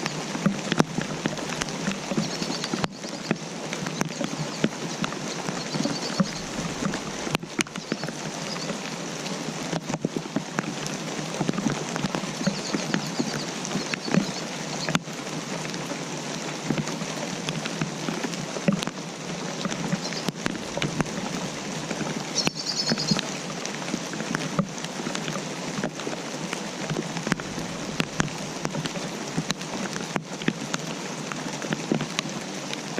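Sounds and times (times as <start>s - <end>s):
raindrops pattering: 0.0s - 32.9s.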